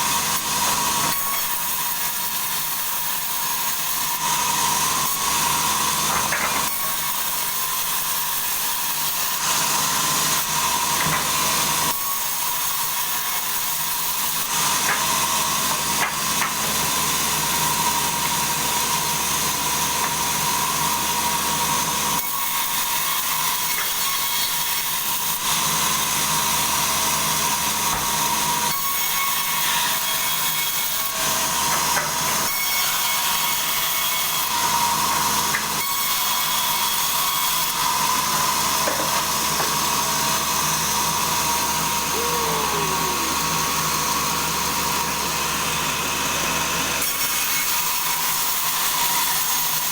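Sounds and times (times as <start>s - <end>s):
saw cutting through log: 0.0s - 49.9s.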